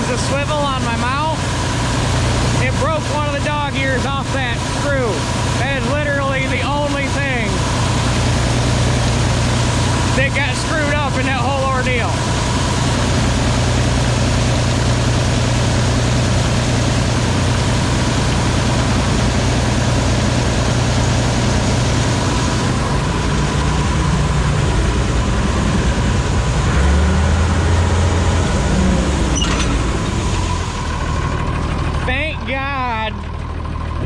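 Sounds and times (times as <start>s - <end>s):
combine harvester engine hum: 0.0s - 34.0s.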